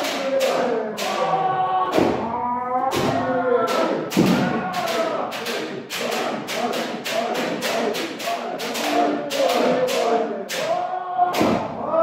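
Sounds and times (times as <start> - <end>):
people shouting: 0.0 - 12.0.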